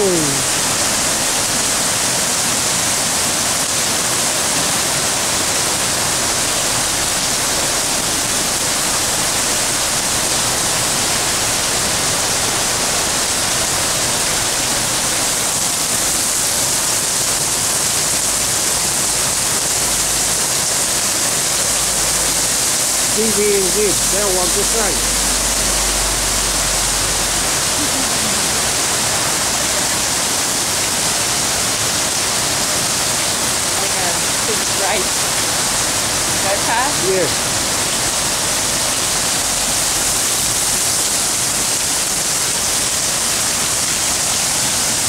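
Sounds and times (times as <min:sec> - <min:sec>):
torrential rain hissing: 0:00.0 - 0:45.0.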